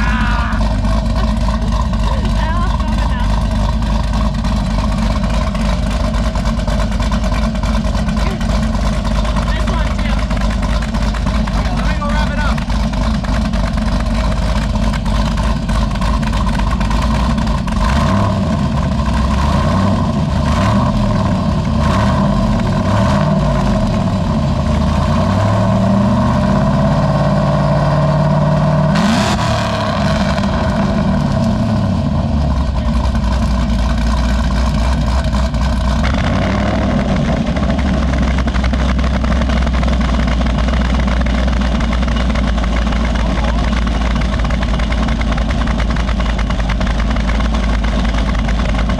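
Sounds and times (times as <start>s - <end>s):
car engine idling: 0.0s - 48.9s
car engine revving: 0.0s - 48.9s.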